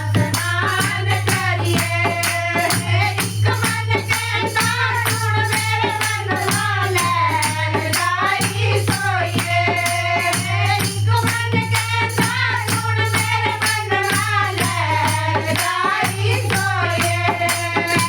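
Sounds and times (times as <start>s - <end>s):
jingling rattle percussion: 0.0s - 18.0s.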